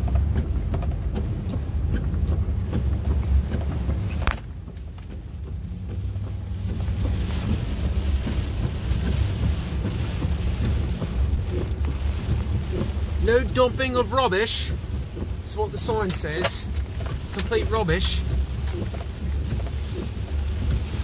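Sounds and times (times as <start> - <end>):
car engine and road rumble: 0.0 - 21.0
hiss of water and rain: 0.0 - 21.0.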